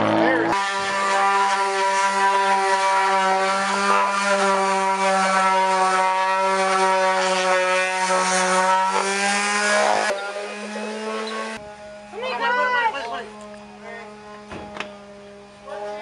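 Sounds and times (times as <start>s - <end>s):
motor droning whine: 0.0s - 16.0s.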